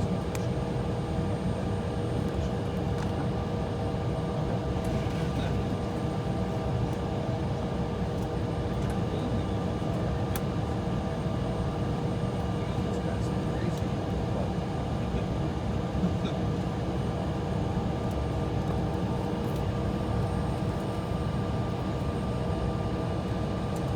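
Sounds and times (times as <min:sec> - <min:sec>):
airliner cabin rumble and hum: 0:00.0 - 0:23.9.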